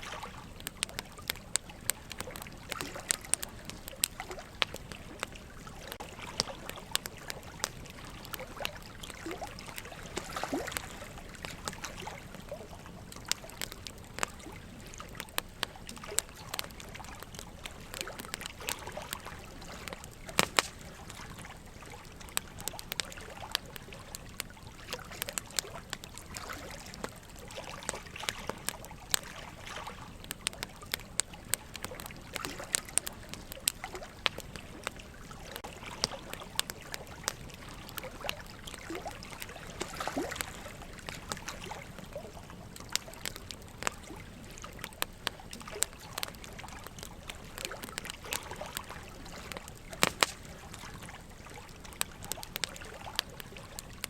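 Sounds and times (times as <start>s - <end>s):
logs crackling and popping in fire: 0.0s - 54.0s
running water trickle: 0.0s - 54.0s.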